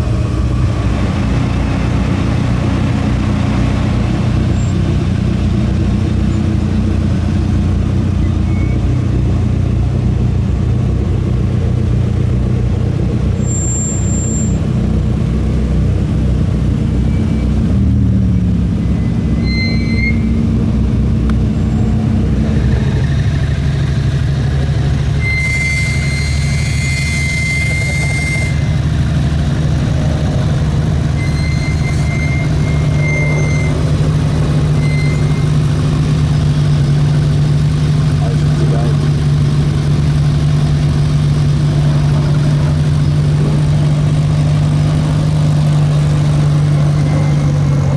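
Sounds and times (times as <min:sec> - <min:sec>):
car engines idling and moving: 0:00.0 - 0:47.9.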